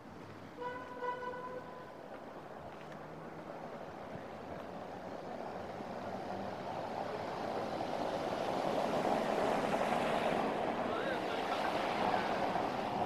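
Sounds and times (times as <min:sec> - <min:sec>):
road traffic rushing hum: 0:00.0 - 0:13.0.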